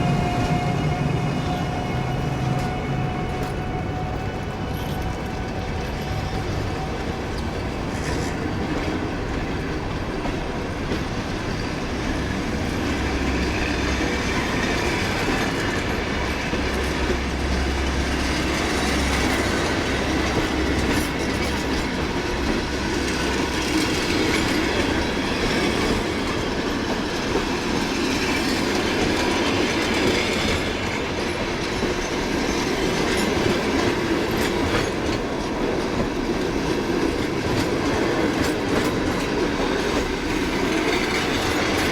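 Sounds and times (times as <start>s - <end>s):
train rumble: 0.0s - 41.9s
train wheels clattering over rail joints: 0.2s - 41.9s.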